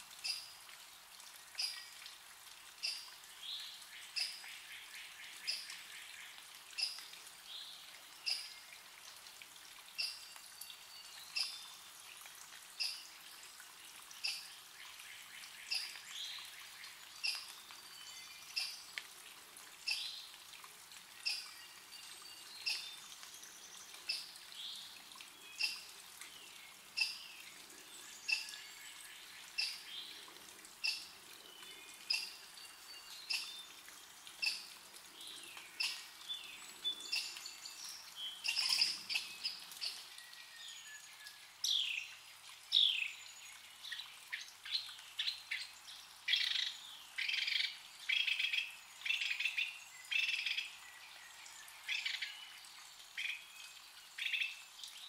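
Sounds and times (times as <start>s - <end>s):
songbirds singing: 9.8s - 19.2s, 19.8s - 55.0s.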